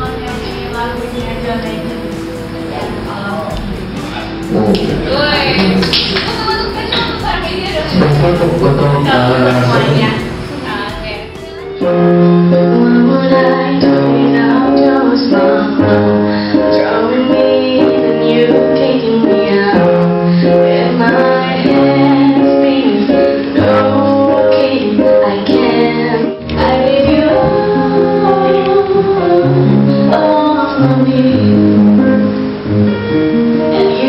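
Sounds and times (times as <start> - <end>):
woman singing: 0.0 - 3.8, 4.9 - 31.7, 33.7 - 34.0
digital piano chords: 0.0 - 34.0.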